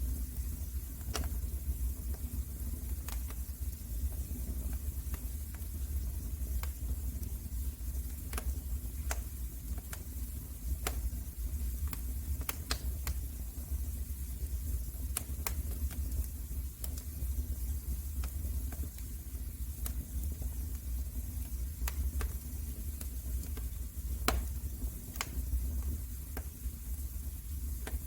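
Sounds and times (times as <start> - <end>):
fire popping and snapping: 0.0 - 28.0.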